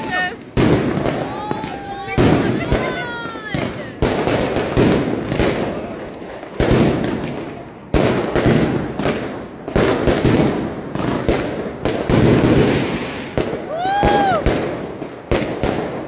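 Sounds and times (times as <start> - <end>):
fireworks banging: 0.0 - 16.0
fireworks crackling: 0.0 - 16.0.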